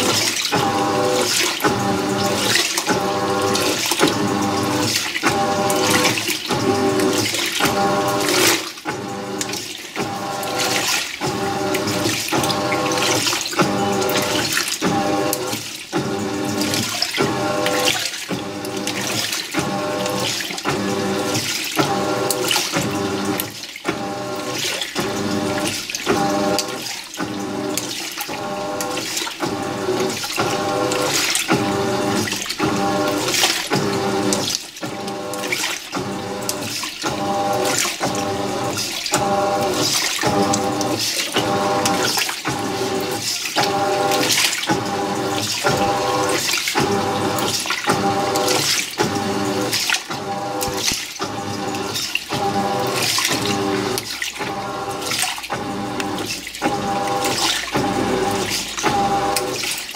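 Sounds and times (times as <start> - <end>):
motor humming: 0.0 - 59.9
washing machine agitating: 0.0 - 59.9
water sloshing: 0.0 - 59.9.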